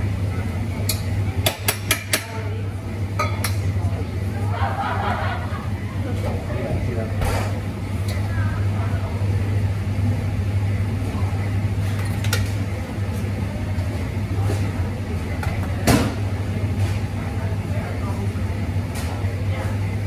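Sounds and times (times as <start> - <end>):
espresso machine hum: 2.4 - 20.0.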